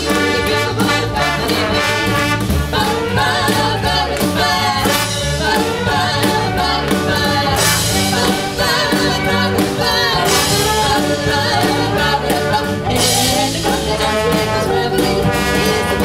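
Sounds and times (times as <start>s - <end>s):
big band swing music: 0.0s - 16.0s
female vocal trio singing: 0.0s - 16.0s.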